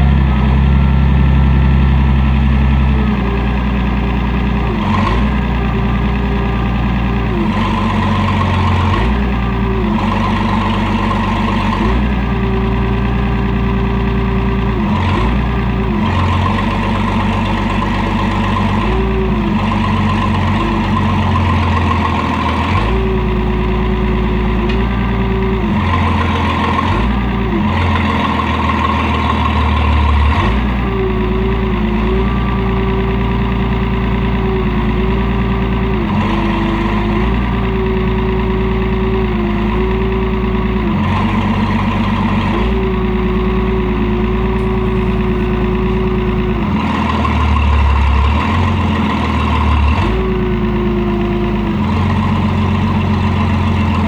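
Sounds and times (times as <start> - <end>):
backhoe engine running: 0.0 - 54.0
hydraulic whine: 0.0 - 54.0.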